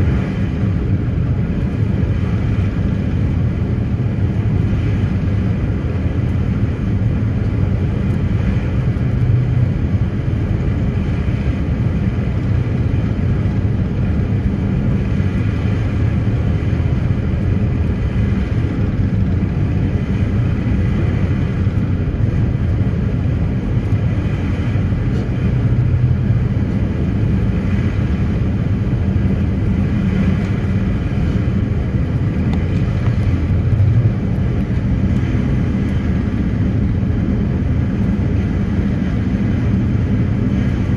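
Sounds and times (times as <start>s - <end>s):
ship engines droning: 0.0s - 40.9s.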